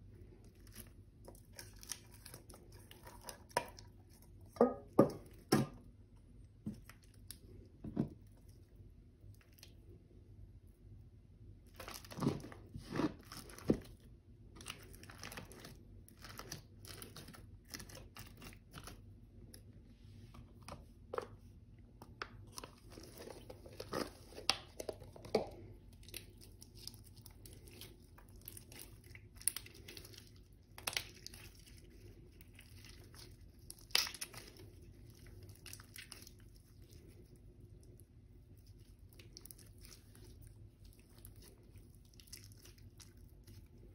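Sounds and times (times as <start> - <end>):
slime squelching by hand: 0.0 - 4.6, 11.6 - 43.9.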